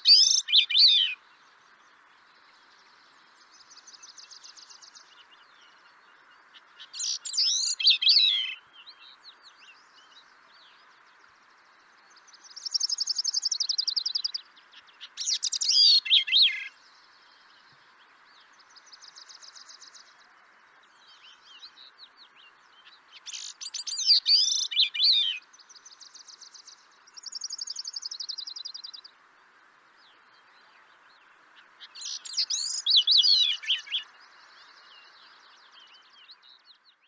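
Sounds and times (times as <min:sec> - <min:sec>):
background hiss: 0:00.0 - 0:37.0.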